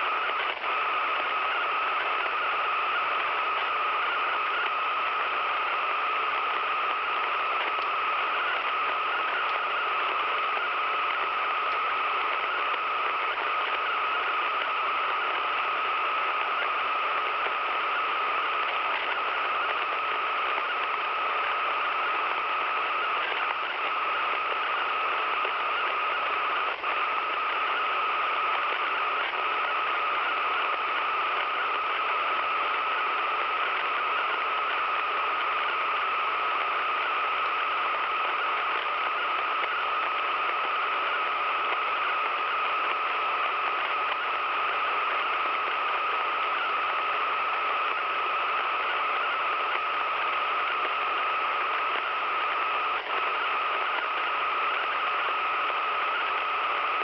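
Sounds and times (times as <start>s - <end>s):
constant mid-pitched tone: 0.0s - 57.0s
radio static hiss: 0.0s - 57.0s.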